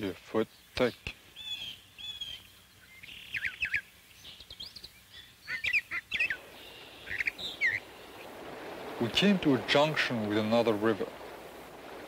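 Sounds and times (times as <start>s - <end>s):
faint steady hiss: 0.0s - 12.0s
wild birds chirping: 0.0s - 12.0s.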